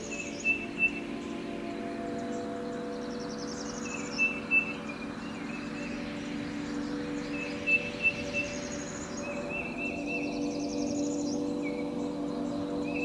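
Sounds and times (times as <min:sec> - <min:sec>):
bird chirps: 0:00.0 - 0:13.0
high pulsing insect-like trills: 0:00.0 - 0:13.0
steady sustained drone: 0:00.0 - 0:13.0.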